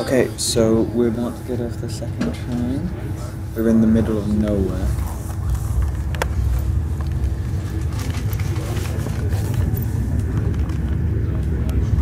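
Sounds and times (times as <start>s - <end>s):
faint steady hum: 0.0s - 12.0s
train rumble: 0.0s - 12.0s.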